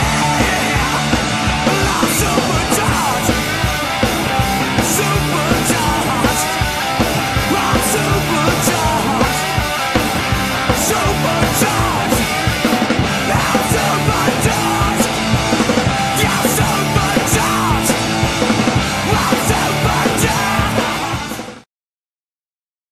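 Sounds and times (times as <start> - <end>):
person singing rock song: 0.0 - 21.6
steady drum beat: 0.0 - 21.6.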